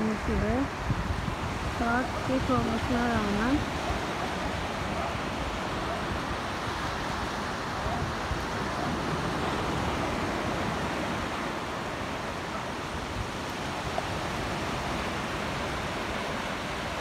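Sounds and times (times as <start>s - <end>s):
sea surf washing on shore: 0.0s - 17.0s
wind rumbling on microphone: 0.0s - 17.0s.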